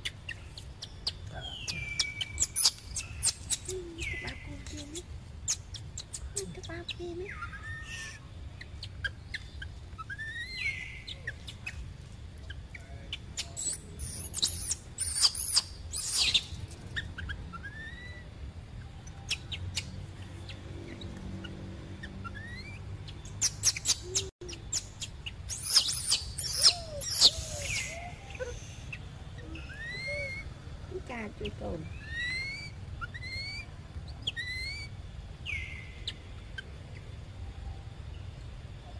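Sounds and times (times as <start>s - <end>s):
baby monkey squealing and chirping: 0.0s - 11.8s, 13.4s - 18.3s, 19.1s - 36.7s.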